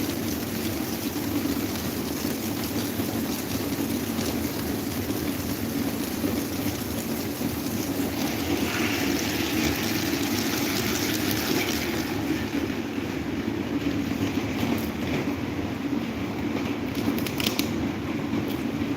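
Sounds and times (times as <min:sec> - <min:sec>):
electric fan running: 0:00.0 - 0:18.9.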